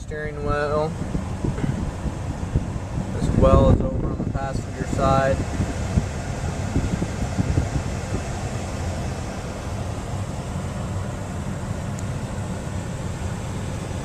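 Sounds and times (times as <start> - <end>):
car engine idling: 0.0 - 14.0
climate control fan blowing: 0.0 - 14.0.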